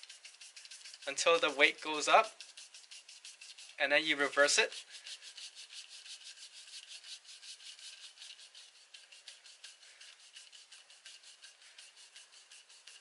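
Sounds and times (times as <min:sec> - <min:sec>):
quick rubbing of wooden stick: 0:00.0 - 0:13.0.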